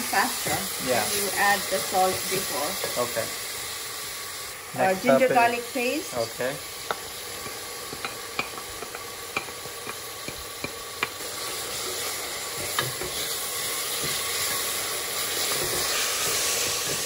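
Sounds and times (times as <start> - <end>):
onions frying in oil: 0.0 - 17.0.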